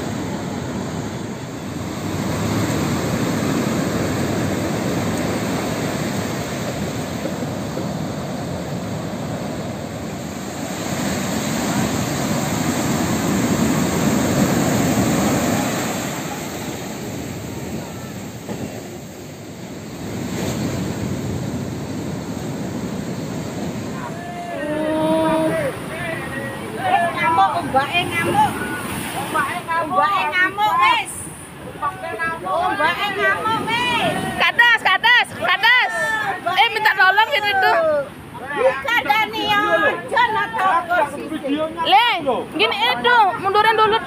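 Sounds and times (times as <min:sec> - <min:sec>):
waves breaking on beach: 0:00.0 - 0:44.0.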